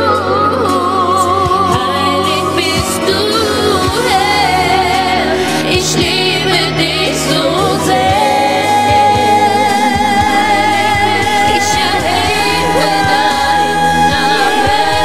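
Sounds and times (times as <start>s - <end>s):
instrumental backing: 0.0s - 15.0s
person singing with vibrato: 0.0s - 15.0s.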